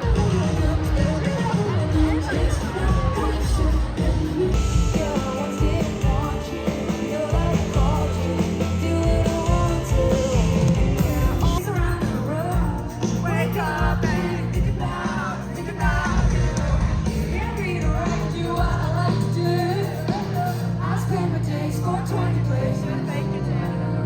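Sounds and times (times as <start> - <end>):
live pop band with singer: 0.0 - 24.0.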